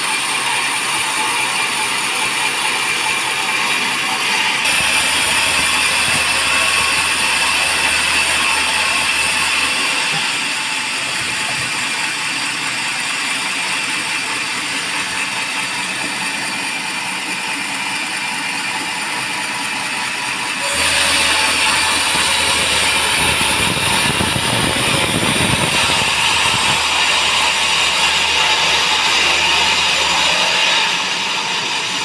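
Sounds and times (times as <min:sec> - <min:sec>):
band sawmill whining: 0:00.0 - 0:32.0.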